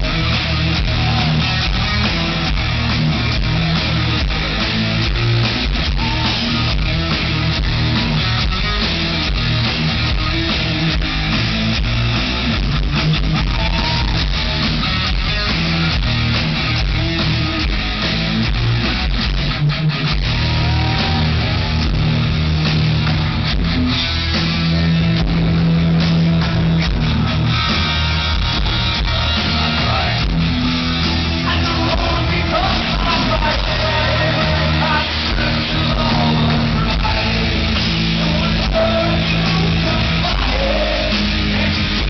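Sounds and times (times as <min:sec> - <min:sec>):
heavy metal band playing live: 0:00.0 - 0:42.0.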